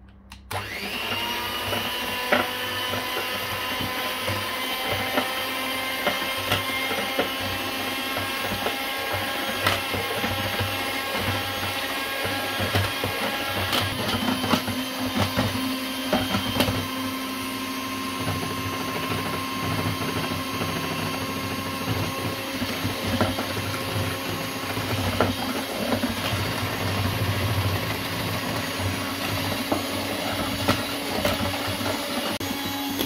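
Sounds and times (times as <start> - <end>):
electric hand mixer whisking: 0.5 - 33.0.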